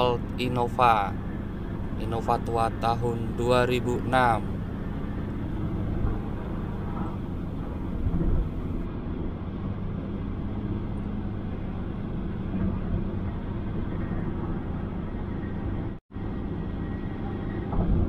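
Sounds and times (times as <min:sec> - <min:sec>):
car engine tyre and wind noise: 0:00.0 - 0:18.0.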